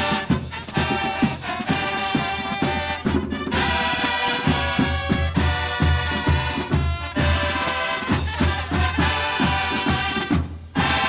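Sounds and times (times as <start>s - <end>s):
brass bugles holding chords: 0.0s - 11.0s
steady drum beats: 0.0s - 11.0s.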